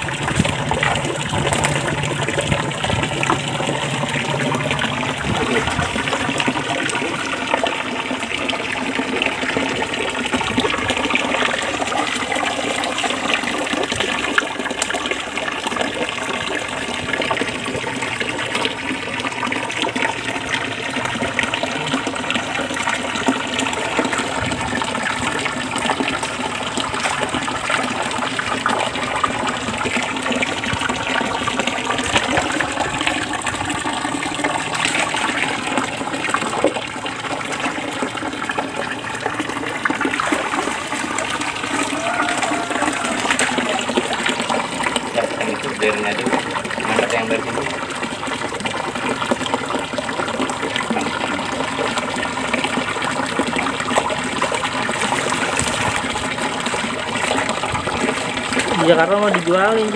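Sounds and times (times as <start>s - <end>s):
small splashes: 0.0s - 59.9s
water gushing: 0.0s - 59.9s.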